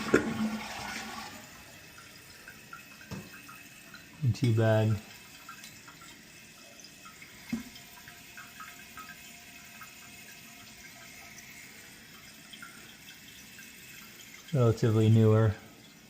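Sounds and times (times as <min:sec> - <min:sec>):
water running from plumbing: 0:00.0 - 0:16.0.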